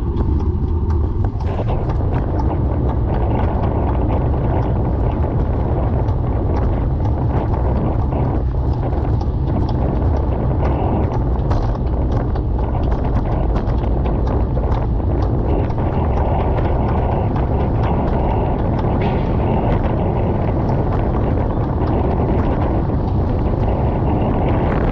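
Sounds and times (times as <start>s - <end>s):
bicycle rotational clicking: 0.0s - 24.9s
wind rumble on microphone: 0.0s - 24.9s.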